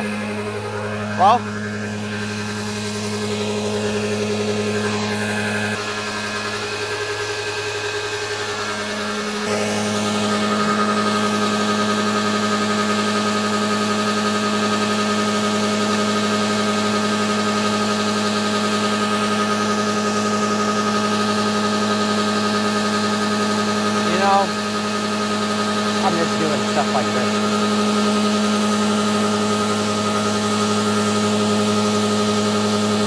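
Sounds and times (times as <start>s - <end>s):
car engine running steadily: 0.0s - 33.0s.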